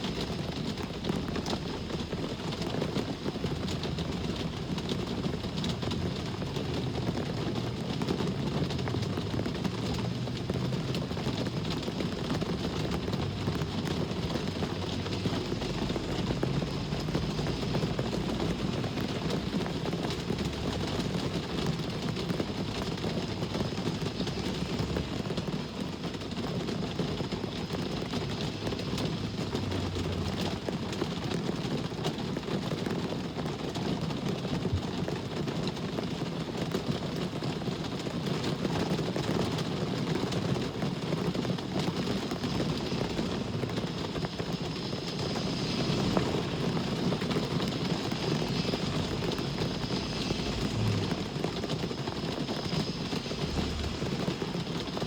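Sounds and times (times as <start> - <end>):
low rumble of road traffic: 0.0 - 55.0
steady rain falling: 0.0 - 55.0.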